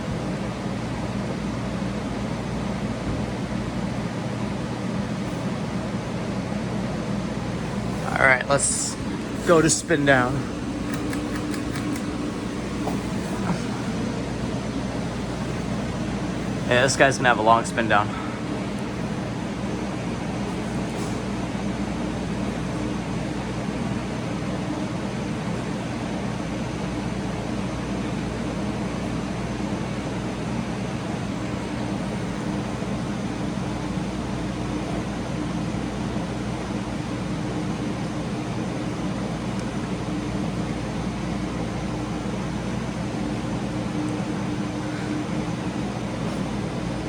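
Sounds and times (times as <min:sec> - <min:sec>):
ceiling fan spinning down: 0:00.0 - 0:47.0
ceiling fans running: 0:00.0 - 0:47.0.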